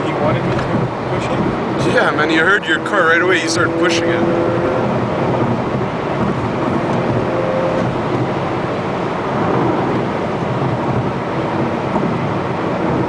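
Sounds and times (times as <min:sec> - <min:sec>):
road and tyre noise in car cabin: 0:00.0 - 0:13.0
wind noise: 0:00.0 - 0:13.0.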